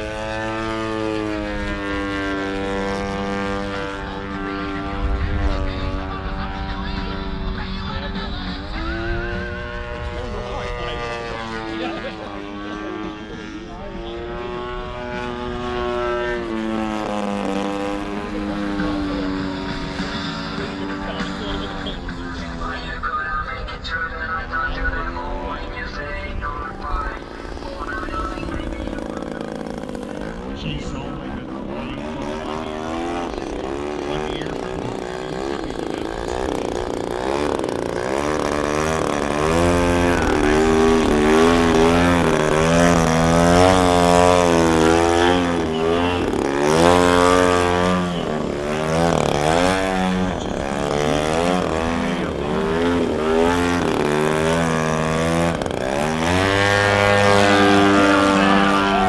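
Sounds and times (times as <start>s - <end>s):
model plane engine revving: 0.0s - 23.4s, 24.4s - 59.0s.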